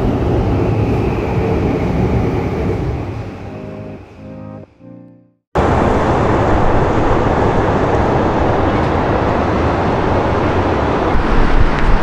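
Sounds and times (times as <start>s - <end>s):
city street noise with low rumble: 0.0s - 4.8s, 5.6s - 12.0s.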